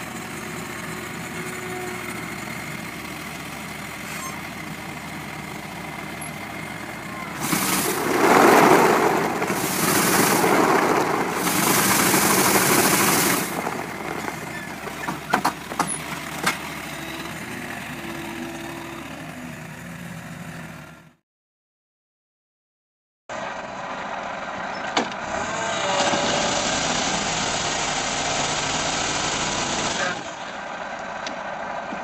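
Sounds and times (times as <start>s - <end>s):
car engine and exhaust: 0.0s - 21.2s, 23.3s - 32.0s.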